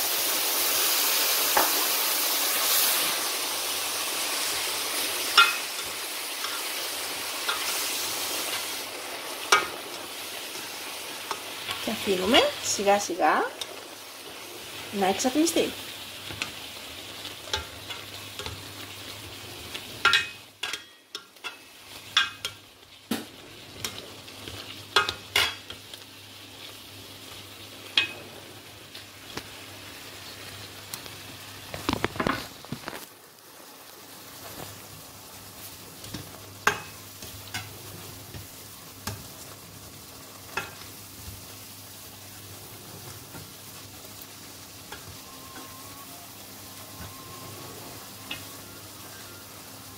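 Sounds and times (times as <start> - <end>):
food sizzling in a pot: 0.0 - 49.9.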